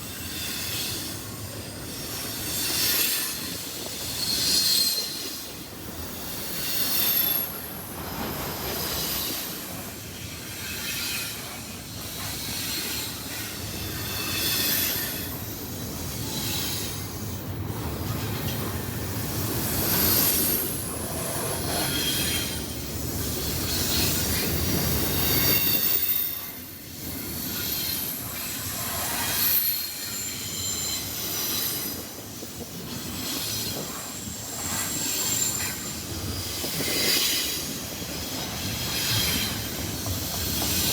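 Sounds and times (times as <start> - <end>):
rumble and clatter of wheels: 0.0 - 40.9
train wheels squealing: 0.0 - 40.9.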